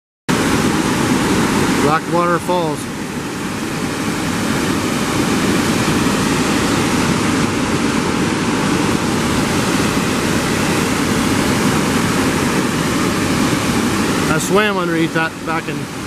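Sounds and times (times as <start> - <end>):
waterfall rushing: 0.3 - 16.0.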